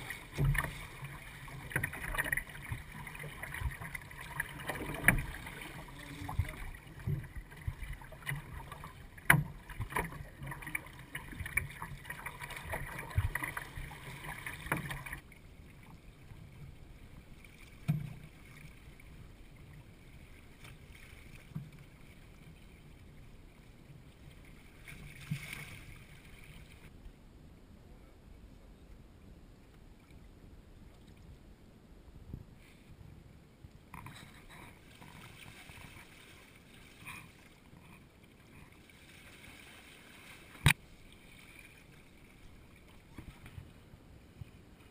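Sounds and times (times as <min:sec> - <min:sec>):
waves slapping boat: 0:00.0 - 0:26.9, 0:33.8 - 0:44.9
water splashing along hull: 0:00.0 - 0:27.1, 0:32.4 - 0:44.9.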